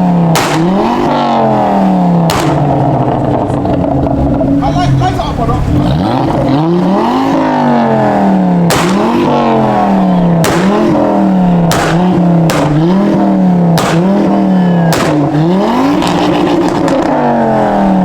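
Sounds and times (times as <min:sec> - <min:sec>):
car engine revving hard: 0:00.0 - 0:18.0
exhaust cracks: 0:00.0 - 0:18.0.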